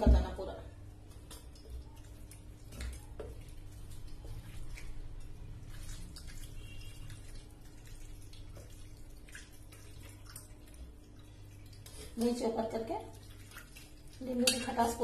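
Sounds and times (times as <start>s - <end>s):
water pouring and trickling: 0.8s - 15.0s.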